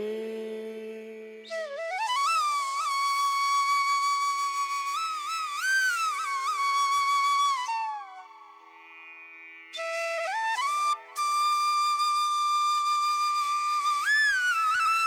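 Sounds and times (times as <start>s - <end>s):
flute playing slow melody: 1.5s - 8.7s, 9.8s - 15.0s.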